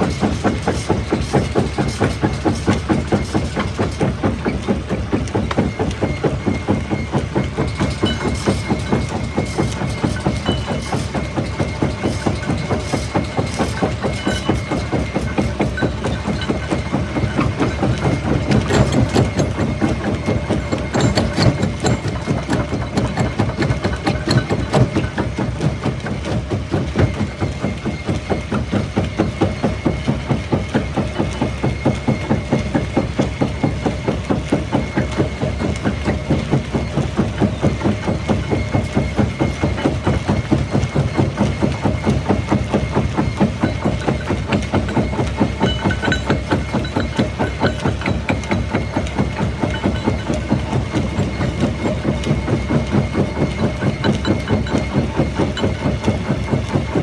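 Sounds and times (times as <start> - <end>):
machine drone: 0.0 - 57.0.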